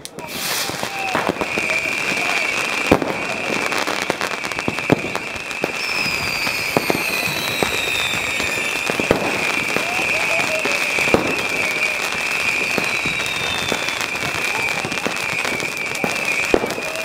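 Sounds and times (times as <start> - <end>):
falling firework whistle: 0.0 - 17.0
fireworks bangs and crackling pops: 0.0 - 17.0.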